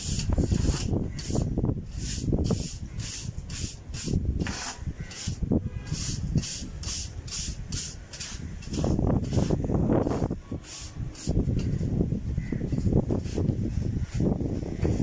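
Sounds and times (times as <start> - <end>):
bristle brush scrubbing concrete: 0.0 - 11.9, 12.8 - 15.0.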